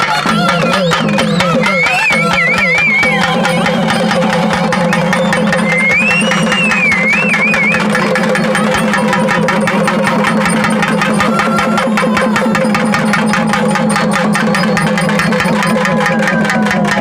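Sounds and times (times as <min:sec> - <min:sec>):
rapid barrel drumming: 0:00.0 - 0:17.0
reed pipe melody: 0:00.0 - 0:17.0
low buzzing drone: 0:00.4 - 0:17.0.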